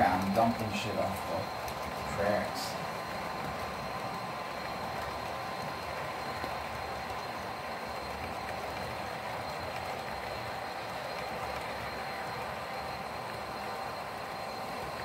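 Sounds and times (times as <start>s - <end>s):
faint high whine: 0.0s - 15.0s
model train cars rolling on track: 0.0s - 15.0s.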